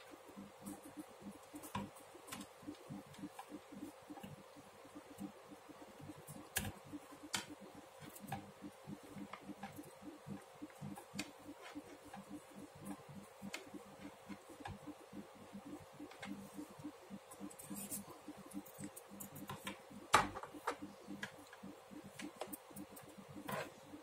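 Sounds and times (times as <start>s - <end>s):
knitting needles clicking: 0.4s - 4.4s, 5.0s - 24.0s.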